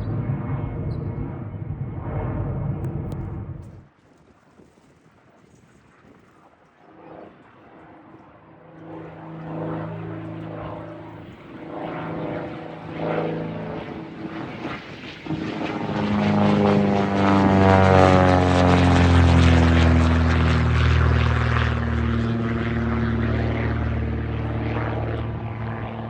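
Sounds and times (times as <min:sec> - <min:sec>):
propeller airplane taking off: 0:00.0 - 0:26.0.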